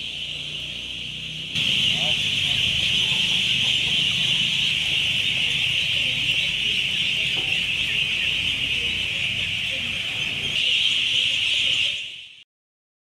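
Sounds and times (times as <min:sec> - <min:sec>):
ducklings peeping: 0:00.0 - 0:12.4.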